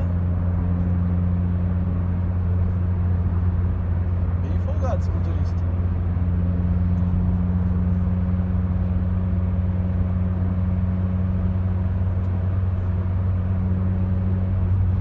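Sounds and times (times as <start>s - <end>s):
car engine drone: 0.0s - 15.0s
road noise: 0.0s - 15.0s.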